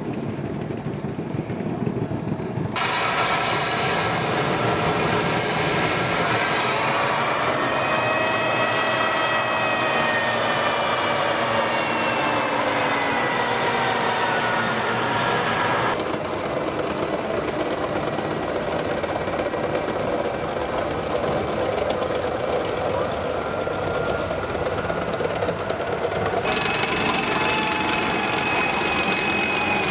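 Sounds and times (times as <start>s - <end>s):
tank turbine whining: 0.0s - 29.9s.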